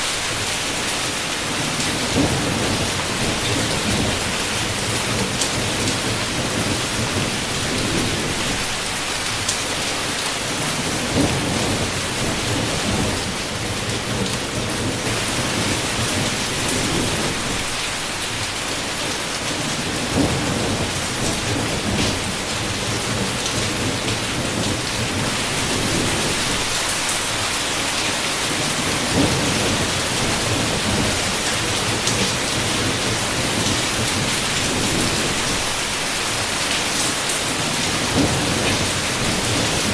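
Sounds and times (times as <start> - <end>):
heavy rain: 0.0 - 39.9
low thunder rumbling: 1.4 - 9.4, 10.4 - 17.8, 19.5 - 27.5, 28.5 - 39.9.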